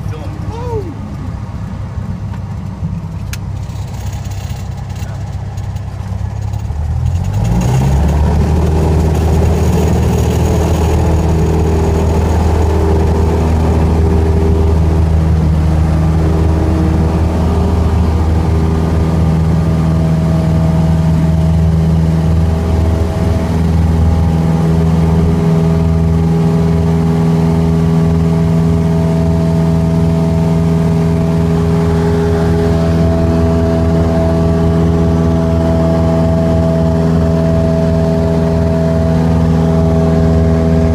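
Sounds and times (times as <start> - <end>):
light aircraft engine and propeller: 0.0 - 40.9.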